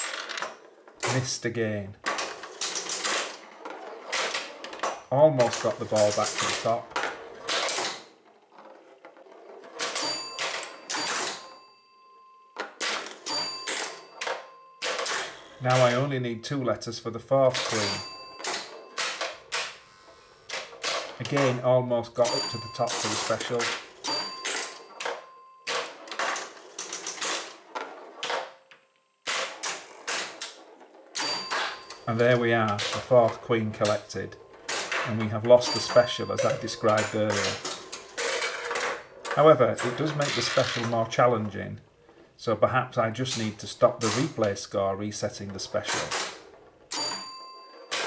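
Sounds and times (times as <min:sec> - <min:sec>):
pinball machine clattering: 0:00.0 - 0:28.7, 0:29.3 - 0:42.3, 0:43.1 - 0:44.6, 0:45.2 - 0:48.0
pinball bell ringing: 0:02.1 - 0:41.3, 0:46.0 - 0:48.0.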